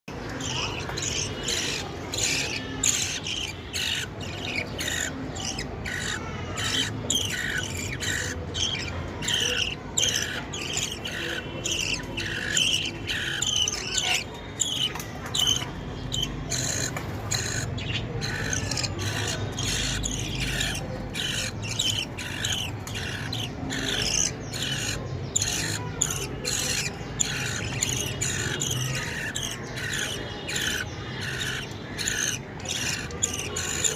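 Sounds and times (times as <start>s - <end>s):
baby birds cheeping: 0.0s - 33.9s.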